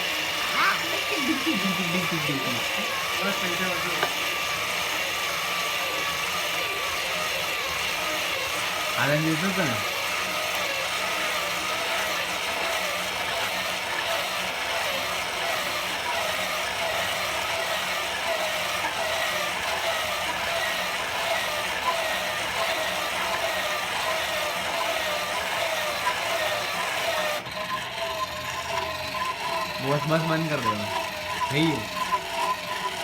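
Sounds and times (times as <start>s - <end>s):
drilling machine whine: 0.0s - 33.0s.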